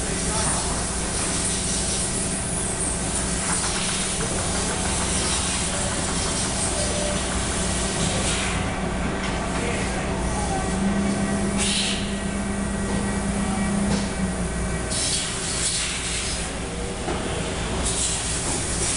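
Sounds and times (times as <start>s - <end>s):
machinery hiss over low hum: 0.0s - 18.9s.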